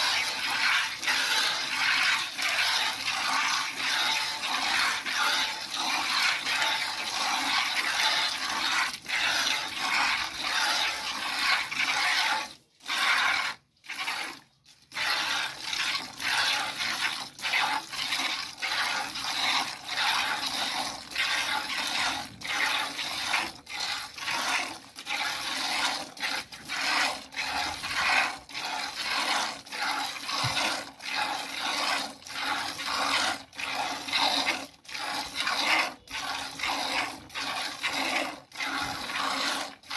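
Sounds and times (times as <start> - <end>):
milk squirting into plastic bucket: 0.0 - 39.9.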